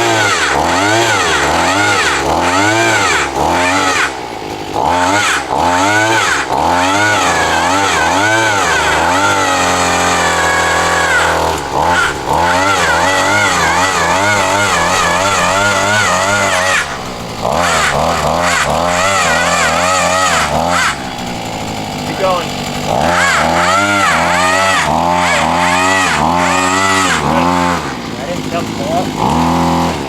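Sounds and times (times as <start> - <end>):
small gas engine of auger: 0.0 - 30.0.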